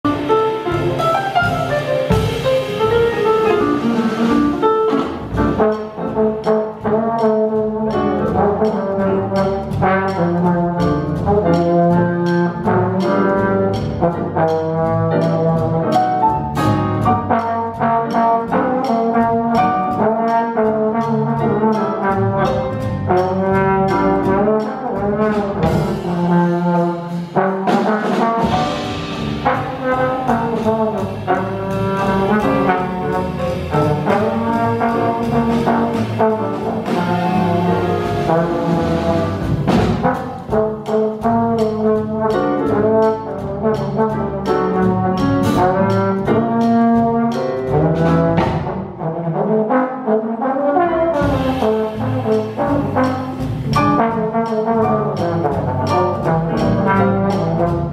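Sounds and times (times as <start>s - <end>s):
upright bass: 0.0s - 49.0s, 50.8s - 57.9s
drums with cymbal beat: 0.0s - 49.1s, 51.0s - 57.9s
piano: 0.0s - 57.9s
trombone playing jazz: 0.0s - 57.9s.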